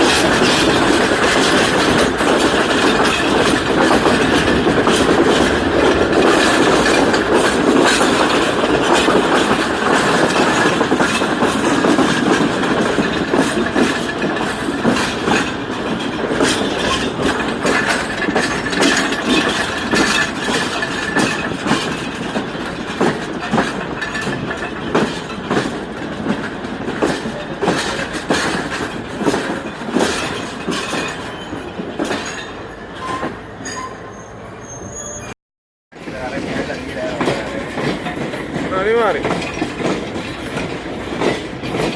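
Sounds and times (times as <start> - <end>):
clickety-clack of rail joints: 0.0 - 35.4, 36.0 - 41.9
train wheels rumbling on rails: 0.0 - 41.9.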